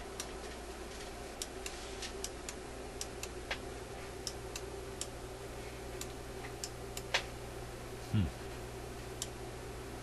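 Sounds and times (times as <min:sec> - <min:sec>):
low mains hum: 0:00.0 - 0:10.0.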